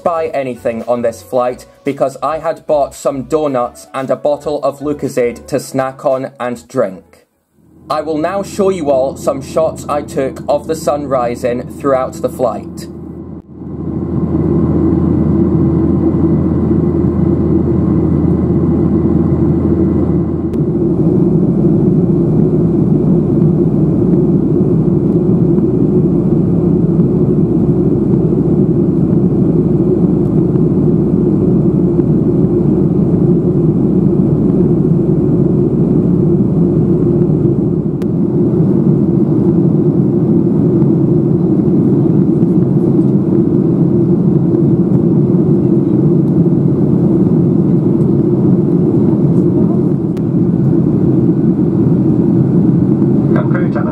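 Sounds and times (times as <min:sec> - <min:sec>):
low hum: 0:07.1 - 0:53.9
aircraft cabin engine and airflow noise: 0:07.6 - 0:53.9.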